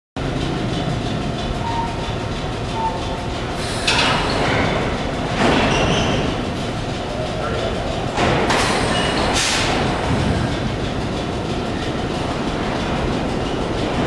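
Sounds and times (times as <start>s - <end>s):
subway train rumbling: 0.2s - 14.0s.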